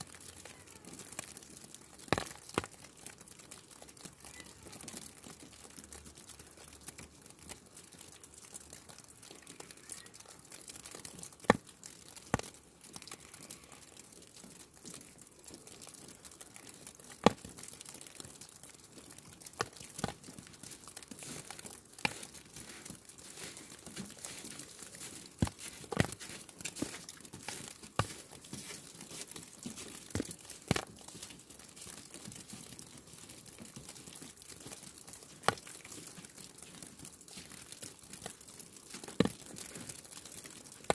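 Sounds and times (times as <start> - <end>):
snow ticks and taps: 0.0 - 40.9.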